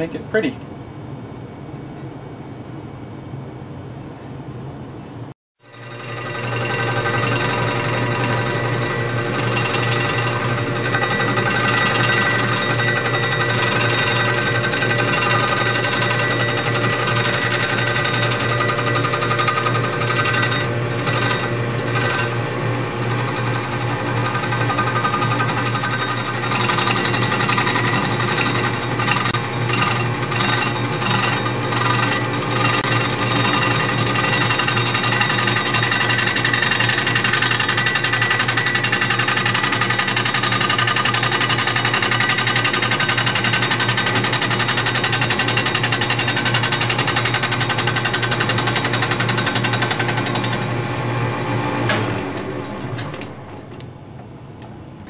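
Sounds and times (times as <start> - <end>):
lathe milling metal: 5.6 - 53.3.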